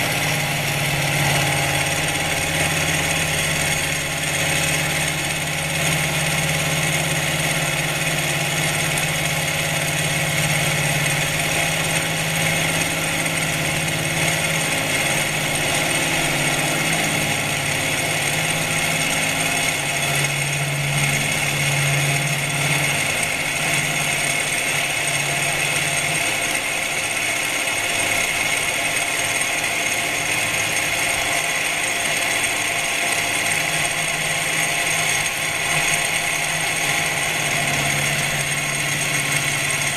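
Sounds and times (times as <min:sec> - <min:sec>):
low hum: 0:00.0 - 0:26.9, 0:32.9 - 0:39.9
metal cutting noise: 0:00.0 - 0:39.9
milling machine whine: 0:00.0 - 0:39.9.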